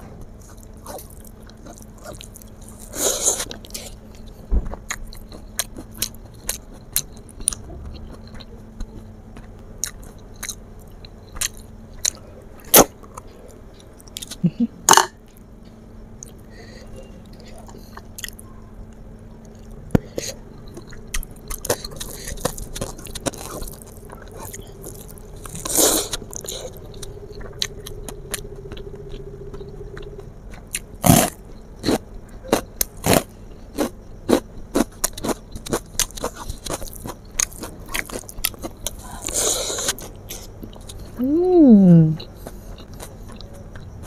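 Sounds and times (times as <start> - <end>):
person chewing food: 0.4 - 15.5, 16.2 - 16.5, 17.2 - 41.2, 42.2 - 44.0.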